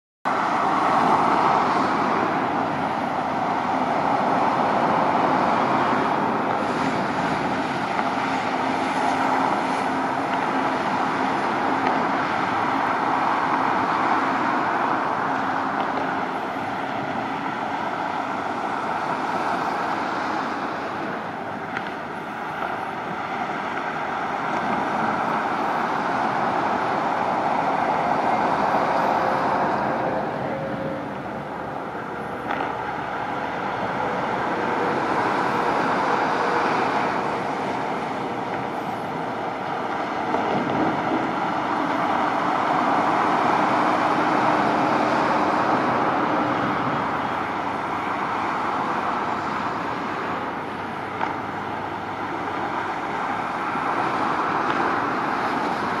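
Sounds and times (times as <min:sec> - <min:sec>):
motorway traffic rushing: 0:00.2 - 0:56.0.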